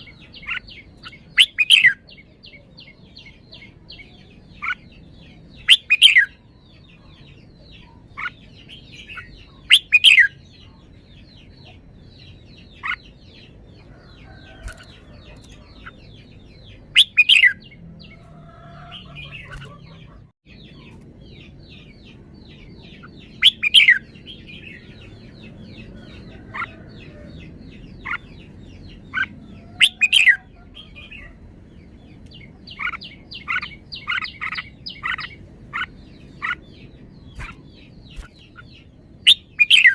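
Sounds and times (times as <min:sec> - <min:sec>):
faint background chirping: 0:00.0 - 0:39.9.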